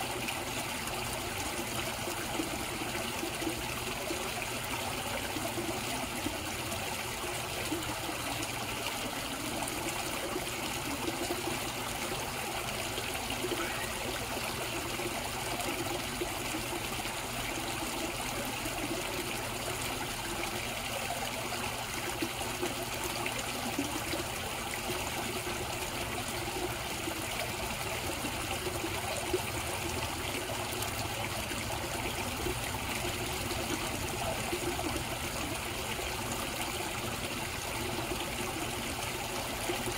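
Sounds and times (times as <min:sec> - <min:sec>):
pond water trickling: 0:00.0 - 0:39.9.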